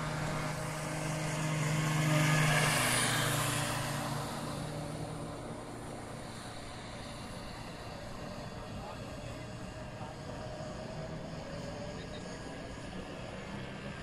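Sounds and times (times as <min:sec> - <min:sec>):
powerboat motor whine: 0:00.0 - 0:14.0.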